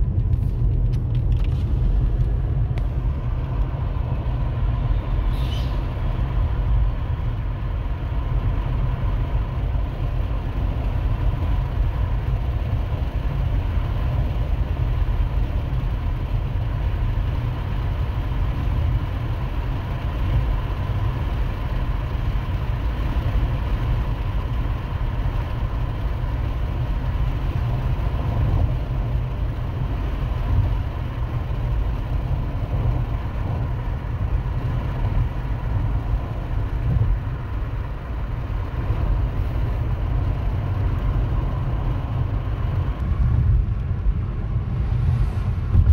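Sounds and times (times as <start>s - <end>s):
car cabin road and engine rumble: 0.0s - 45.9s.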